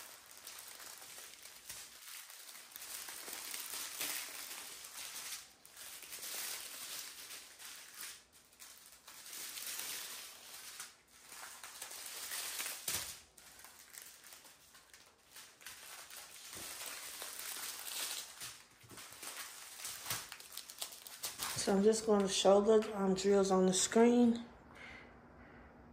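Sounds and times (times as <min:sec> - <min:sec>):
plastic bags crinkling: 0:00.0 - 0:23.1.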